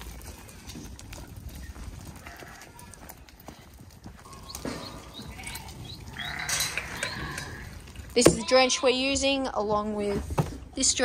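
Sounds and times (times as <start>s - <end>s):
sheep hooves tapping on dirt: 0.0s - 10.4s.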